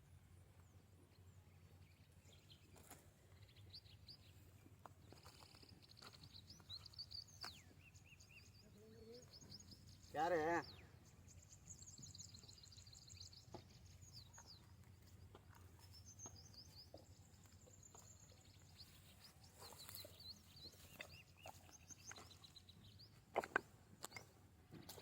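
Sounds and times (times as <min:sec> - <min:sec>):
small birds chirping: 0:00.4 - 0:25.0.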